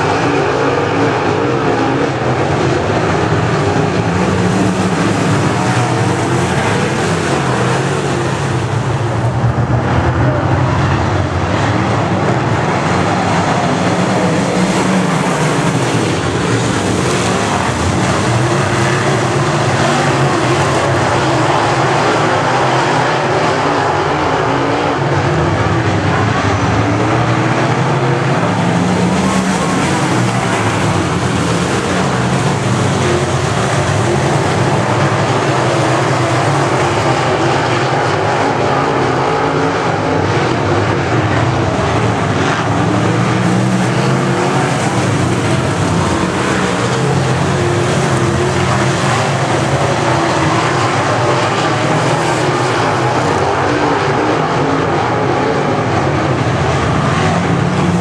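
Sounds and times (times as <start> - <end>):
race car engines: 0.0 - 58.0.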